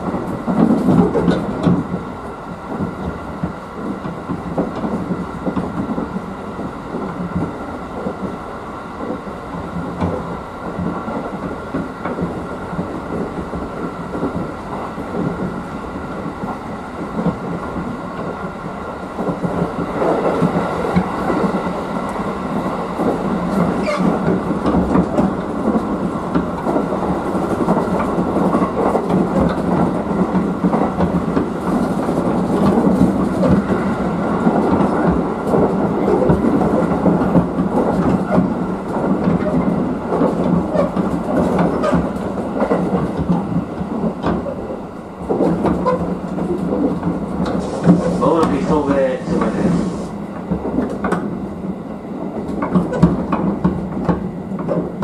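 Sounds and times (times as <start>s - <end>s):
wheels clacking over rail joints: 0.0s - 8.4s, 9.0s - 51.4s, 52.2s - 55.0s
train cabin running noise: 0.0s - 55.0s.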